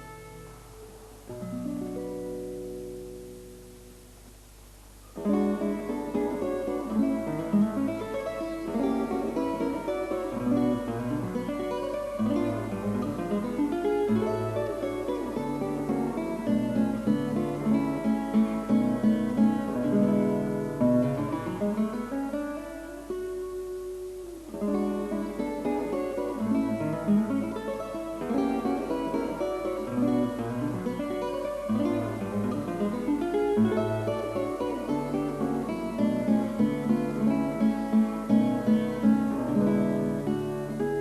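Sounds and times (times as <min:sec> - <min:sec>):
acoustic guitar tune: 0:00.0 - 0:41.0.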